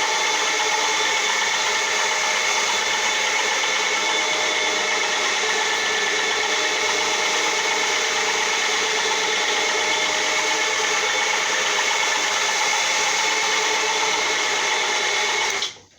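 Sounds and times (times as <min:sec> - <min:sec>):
floor polisher motor hum and whine: 0:00.0 - 0:15.9.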